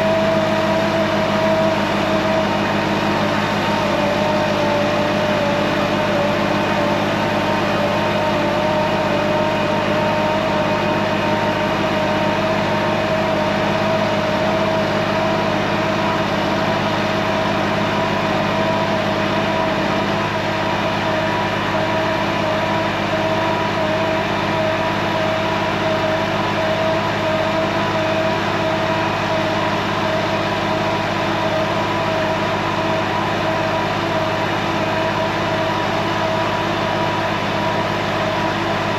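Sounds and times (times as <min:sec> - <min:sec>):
trailer unloading whine: 0:00.0 - 0:38.9
truck engine hum: 0:00.0 - 0:38.9.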